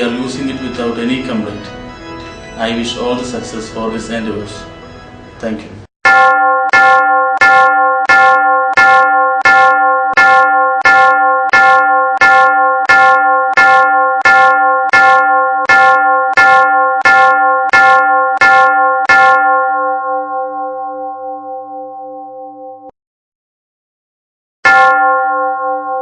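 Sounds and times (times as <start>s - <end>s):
church bell ringing: 0.0s - 22.7s, 24.6s - 26.0s.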